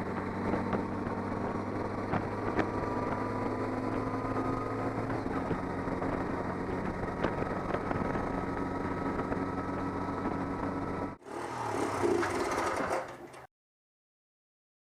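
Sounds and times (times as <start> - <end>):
road noise: 0.0 - 13.4
vehicle engine hum: 0.0 - 13.5.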